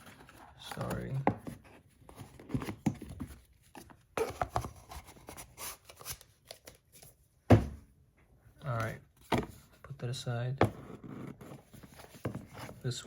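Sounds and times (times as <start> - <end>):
cardboard boxes being handled: 0.0 - 7.8, 8.8 - 9.8, 10.6 - 13.0.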